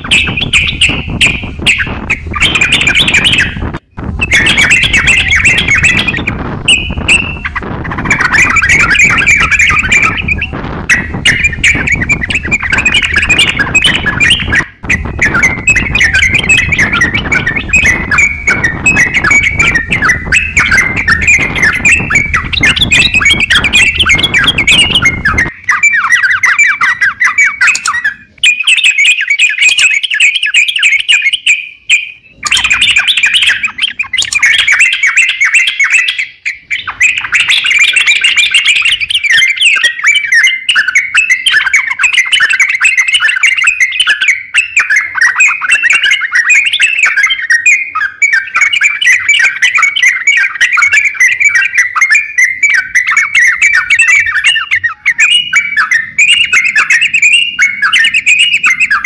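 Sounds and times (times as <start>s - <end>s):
songbird singing harsh chattering notes: 0.0s - 59.0s.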